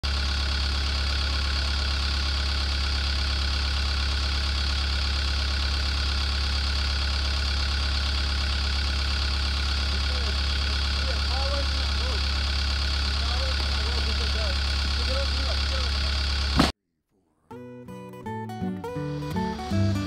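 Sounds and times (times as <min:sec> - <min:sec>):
diesel engine idling: 0:00.0 - 0:16.7.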